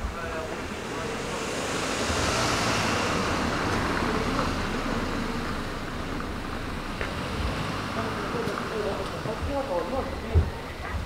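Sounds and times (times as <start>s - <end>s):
steady street hum: 0.0s - 11.0s
vehicle passing close by: 0.2s - 10.0s.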